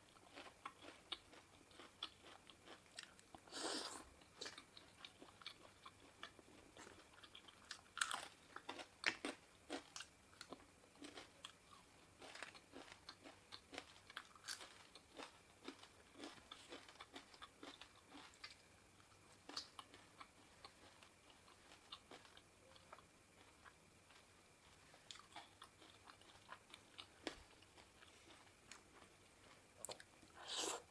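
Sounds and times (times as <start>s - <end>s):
person chewing and eating: 0.0s - 30.9s.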